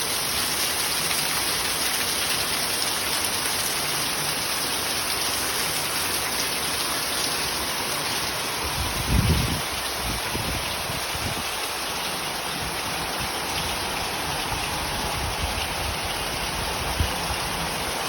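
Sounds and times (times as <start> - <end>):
heavy rain hissing: 0.0 - 18.0.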